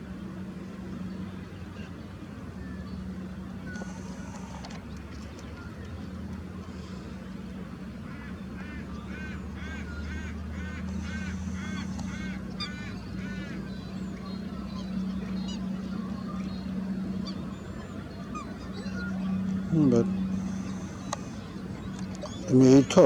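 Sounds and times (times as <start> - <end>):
steady low hum: 0.0 - 23.0
waterbird calling: 0.1 - 23.0.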